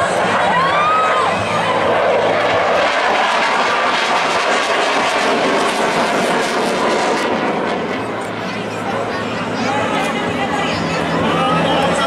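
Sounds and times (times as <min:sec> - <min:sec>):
jet flying past: 0:00.0 - 0:12.0.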